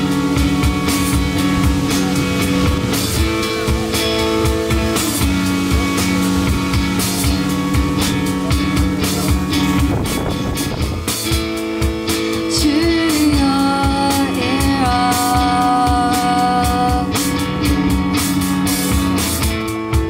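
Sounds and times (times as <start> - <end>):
drum and cymbal hits: 0.0 - 20.0
electric guitar chords: 0.0 - 20.0.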